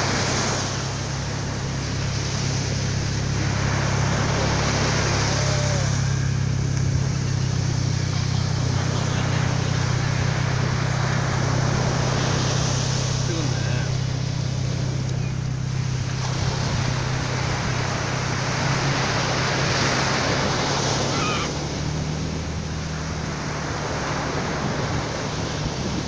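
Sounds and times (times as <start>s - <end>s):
ocean surf breaking: 0.0s - 26.0s
steady low hum: 0.0s - 26.0s.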